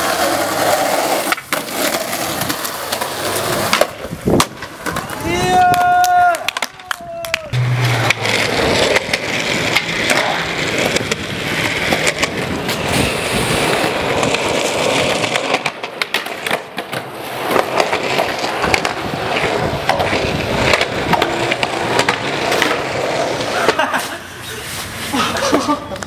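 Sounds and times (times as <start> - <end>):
skateboard clacking on ground: 0.0 - 24.2
skateboard wheels rolling on concrete: 0.0 - 26.0.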